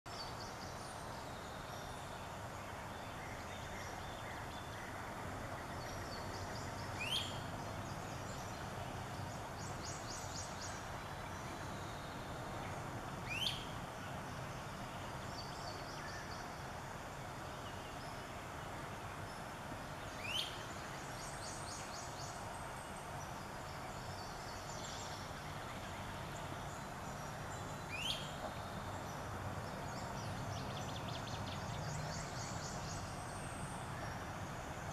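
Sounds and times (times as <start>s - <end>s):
background hiss: 0.1s - 34.9s
faint birdsong: 0.1s - 34.9s.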